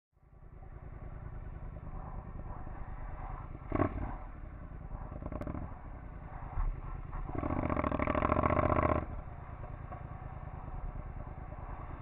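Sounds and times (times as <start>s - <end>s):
motorcycle engine rumbling: 0.2s - 12.0s.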